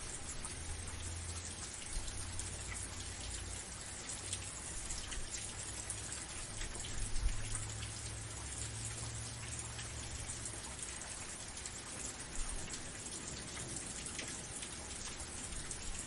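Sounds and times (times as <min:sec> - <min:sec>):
drops ticking on a surface: 0:00.0 - 0:16.0
steady rain hiss: 0:00.0 - 0:16.0.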